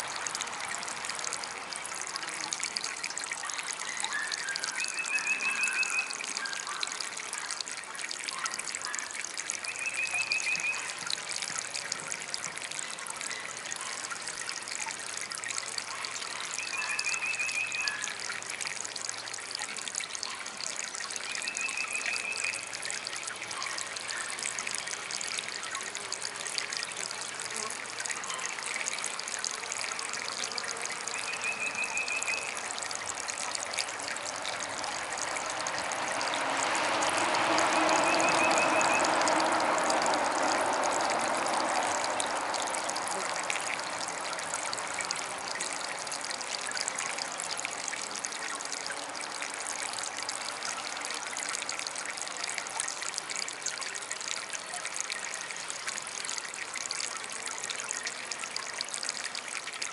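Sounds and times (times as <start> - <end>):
water fountain trickling: 0.0 - 59.9.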